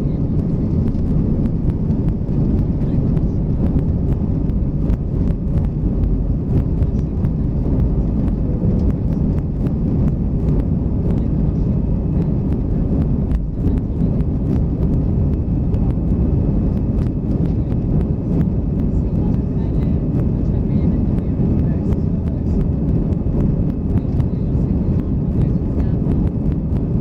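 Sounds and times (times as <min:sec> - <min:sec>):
jet engines roaring in cabin: 0:00.0 - 0:27.0.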